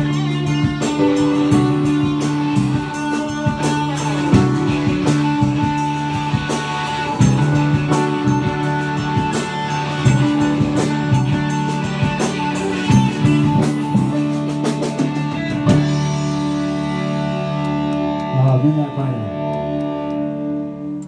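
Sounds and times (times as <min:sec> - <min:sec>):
drums keeping beat: 0:00.0 - 0:18.3
electric guitars playing rock: 0:00.0 - 0:21.0.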